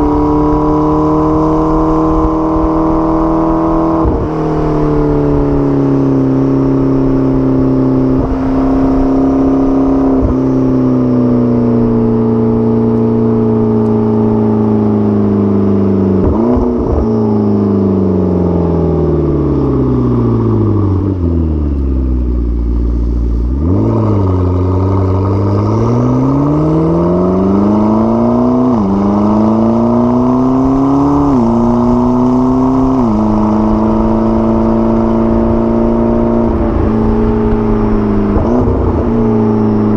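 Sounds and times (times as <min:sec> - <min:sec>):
sports car engine and exhaust: 0:00.0 - 0:39.9.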